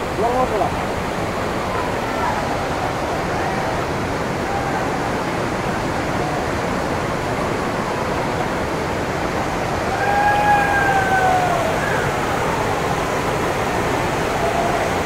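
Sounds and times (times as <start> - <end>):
churning river water: 0.0 - 15.0
waterfall roar: 0.0 - 15.0.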